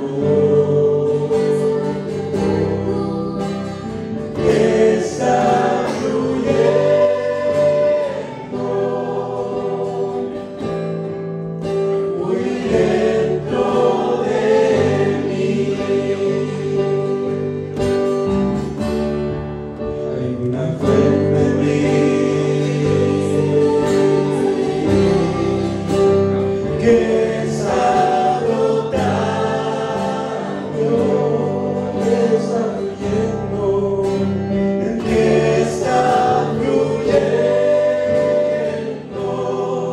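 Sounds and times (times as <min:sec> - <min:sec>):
choir singing worship song: 0:00.0 - 0:19.1, 0:20.1 - 0:39.9.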